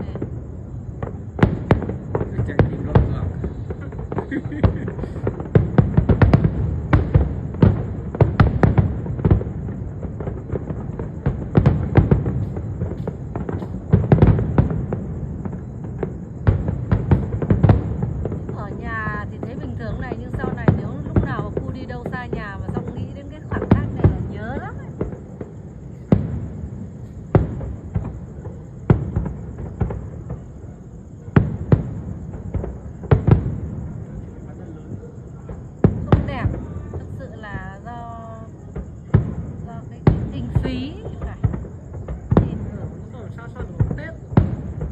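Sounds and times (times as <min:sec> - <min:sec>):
distant booms rumbling: 0:00.0 - 0:44.9
fireworks bangs: 0:00.0 - 0:44.9.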